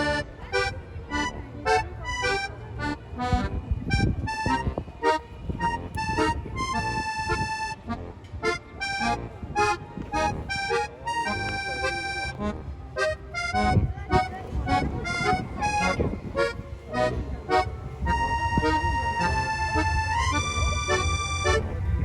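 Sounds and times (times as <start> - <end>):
accordion-like melody: 0.0 - 22.0.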